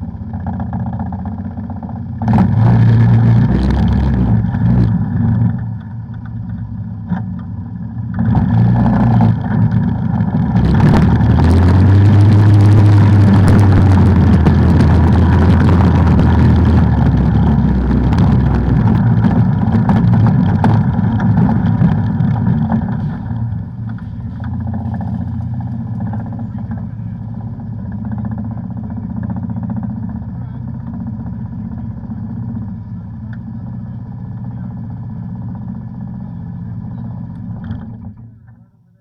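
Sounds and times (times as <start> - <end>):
off-road vehicle engine revving: 0.0 - 38.5.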